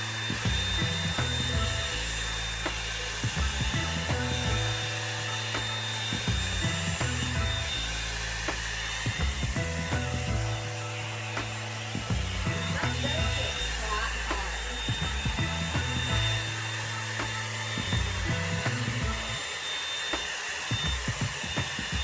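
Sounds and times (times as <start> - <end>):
background music: 0.0 - 22.0
hot air brush blowing: 0.0 - 22.0.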